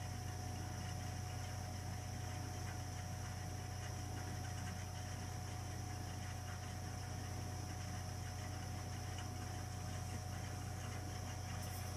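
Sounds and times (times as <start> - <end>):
boiler high whine: 0.0 - 11.9
boiler low hum: 0.0 - 11.9.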